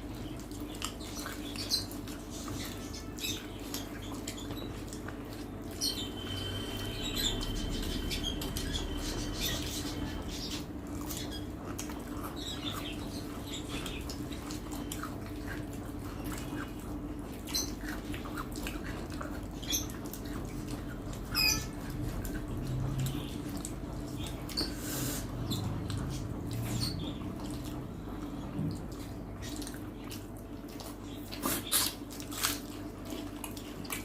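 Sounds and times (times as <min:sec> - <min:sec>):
steady low hum: 0:00.0 - 0:31.4
chewing: 0:00.0 - 0:34.0
wet crackly eating noises: 0:00.0 - 0:34.0.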